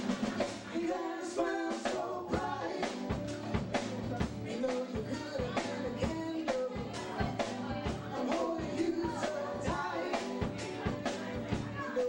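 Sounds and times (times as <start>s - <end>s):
drum kit steady beat: 0.0s - 12.0s
electric guitars: 2.3s - 12.0s
woman singing: 2.3s - 12.0s.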